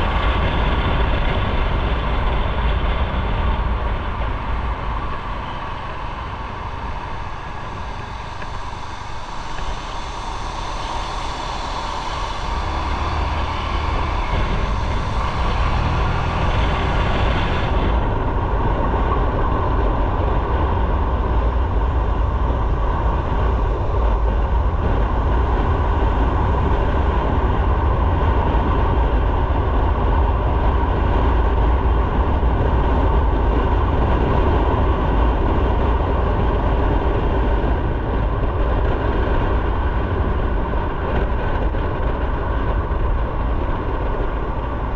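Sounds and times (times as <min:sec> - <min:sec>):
motorcycle engine and road noise: 0:00.0 - 0:44.9
wind rush: 0:00.0 - 0:44.9.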